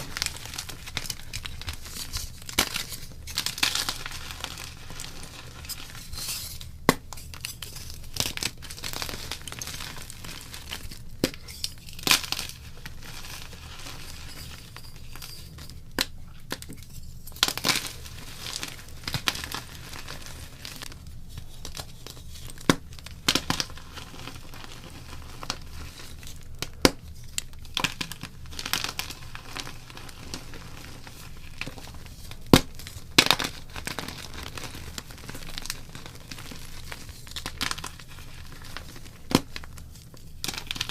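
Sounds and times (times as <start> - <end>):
chalk crumbling and crunching: 0.0 - 40.9
chalk pieces cracking: 0.0 - 40.9.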